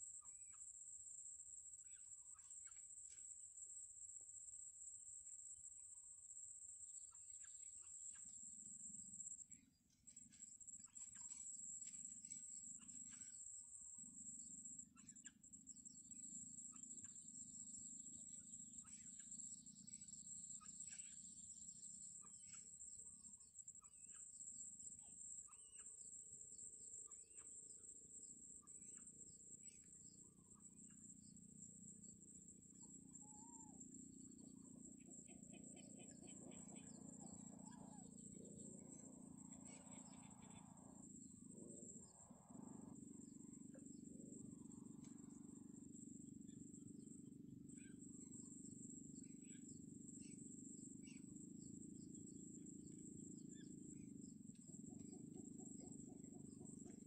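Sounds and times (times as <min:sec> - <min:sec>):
faint chirps and ticks: 0:00.0 - 0:57.0
high-pitched insect drone: 0:06.2 - 0:57.0.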